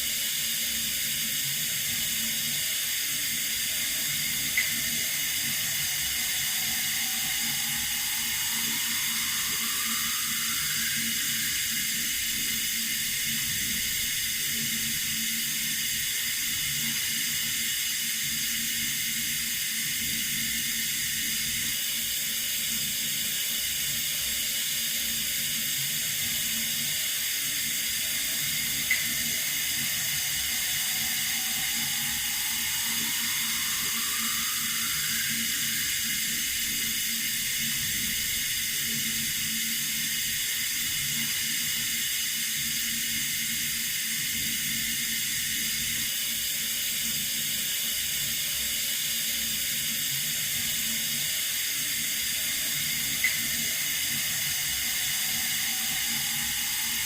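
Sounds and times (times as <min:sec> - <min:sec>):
tap water running: 0:00.3 - 0:21.7, 0:25.4 - 0:46.0, 0:49.9 - 0:57.0.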